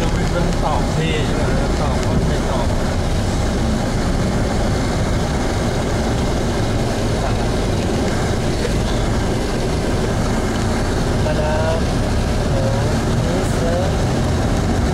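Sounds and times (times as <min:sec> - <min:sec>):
engine and tyre noise: 0:00.0 - 0:14.9
surrounding traffic hum: 0:00.0 - 0:14.9
wind rumbling on microphone: 0:00.0 - 0:14.9.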